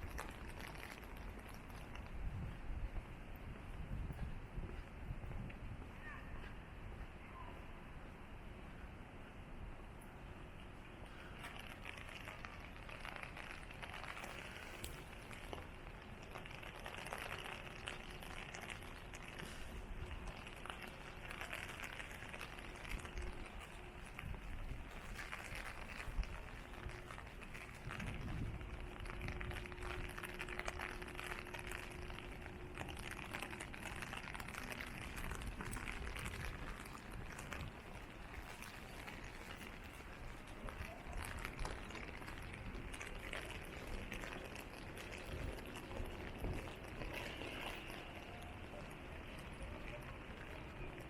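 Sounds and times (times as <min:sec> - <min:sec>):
rain drops pattering: 0:00.0 - 0:06.2, 0:10.5 - 0:51.0
low steady hum: 0:00.0 - 0:51.0.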